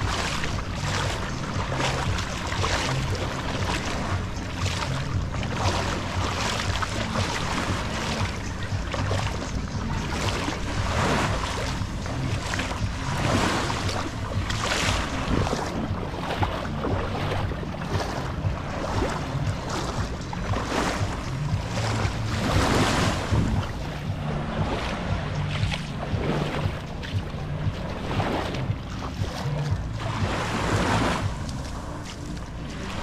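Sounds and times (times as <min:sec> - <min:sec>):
small waves lapping on shore: 0:00.0 - 0:33.0
wind buffeting microphone: 0:00.0 - 0:33.0.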